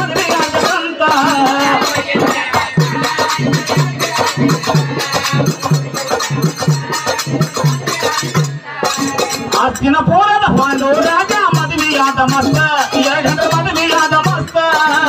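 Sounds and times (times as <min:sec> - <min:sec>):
hand percussion beat: 0:00.0 - 0:15.0.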